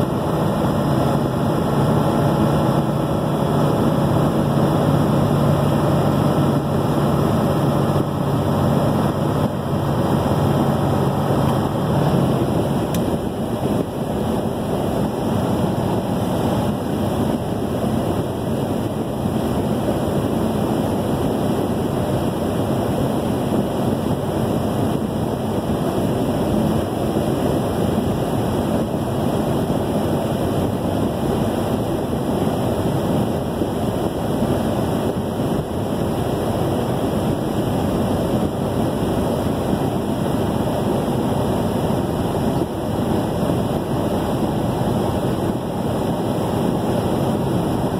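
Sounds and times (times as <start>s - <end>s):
tyre and wind road noise: 0.0s - 47.9s.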